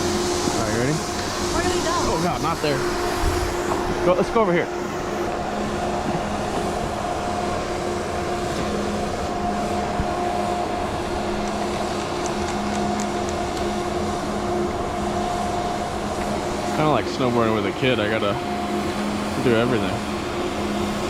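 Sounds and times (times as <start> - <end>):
chairlift machinery humming: 0.0 - 21.0.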